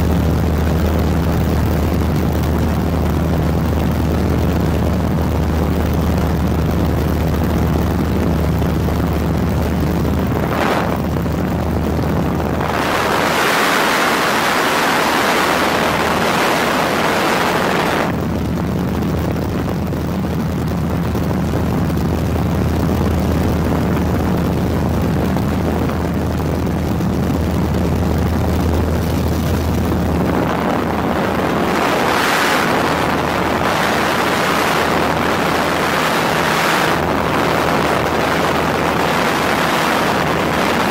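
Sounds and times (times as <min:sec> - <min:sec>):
low engine drone: 0:00.0 - 0:40.9
rushing wind: 0:00.0 - 0:40.9.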